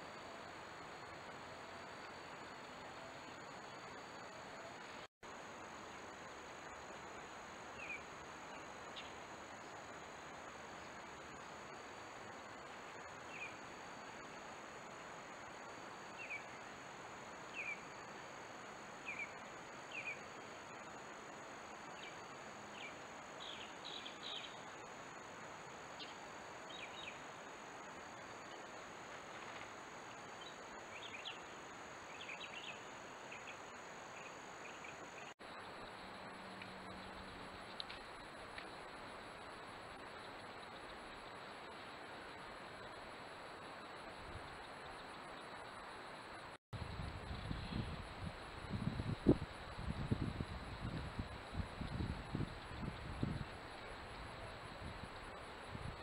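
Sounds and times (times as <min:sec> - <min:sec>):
insect hum: 0:00.0 - 0:56.0.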